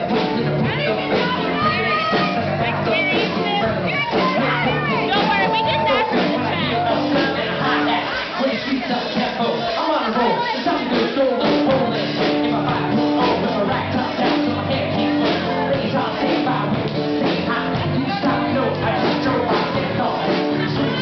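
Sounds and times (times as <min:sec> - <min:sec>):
drums steady beat: 0:00.0 - 0:21.0
live rock band: 0:00.0 - 0:21.0
person singing: 0:00.0 - 0:21.0.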